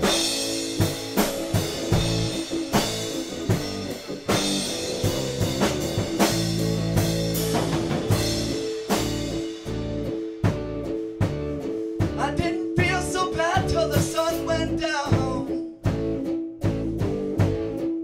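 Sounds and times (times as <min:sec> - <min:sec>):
wavering lead melody: 0:00.0 - 0:15.5
rock blues song: 0:00.0 - 0:18.0.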